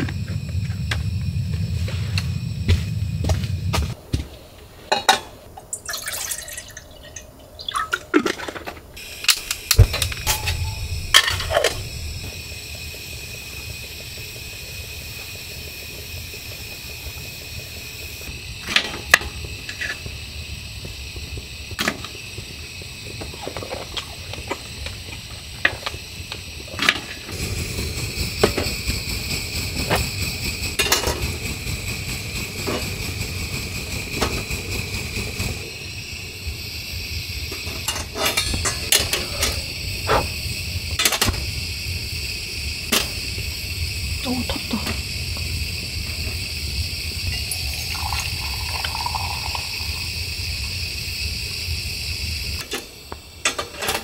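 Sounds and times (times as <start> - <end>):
gas stove burner hissing: 0.0 - 6.6, 8.4 - 54.0.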